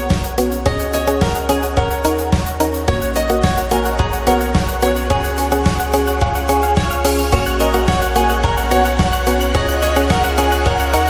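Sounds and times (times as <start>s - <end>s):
synth music with drum beat: 0.0s - 11.0s.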